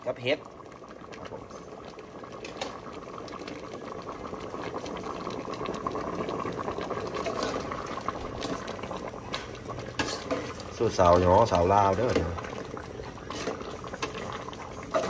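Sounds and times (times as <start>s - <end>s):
curry bubbling in a pot: 0.0s - 15.0s
ladle stirring in a pot: 1.0s - 15.0s.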